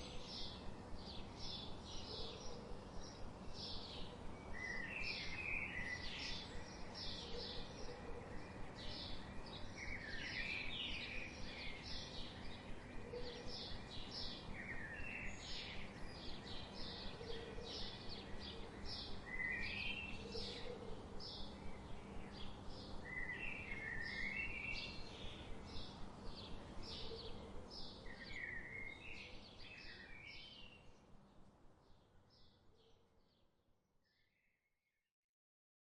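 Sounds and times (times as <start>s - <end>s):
small birds chirping: 0.0s - 31.1s
steady background hiss: 0.0s - 32.4s.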